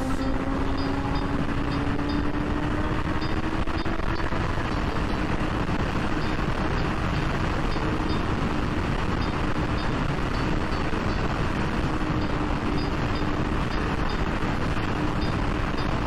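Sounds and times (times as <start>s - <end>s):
motorcycle engine at high revs: 0.0s - 16.0s
wind rush on microphone: 0.0s - 16.0s.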